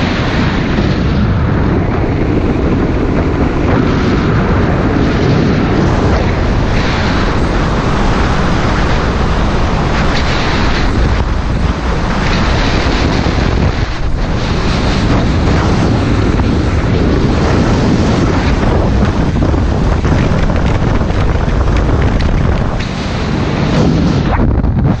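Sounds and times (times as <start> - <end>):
wheel and road roar: 0.0 - 25.0
wind buffeting microphone: 0.0 - 25.0.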